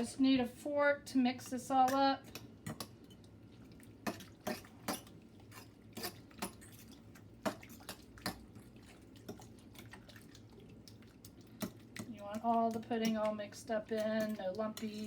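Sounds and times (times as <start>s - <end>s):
wet squish of stirring: 1.4s - 15.0s.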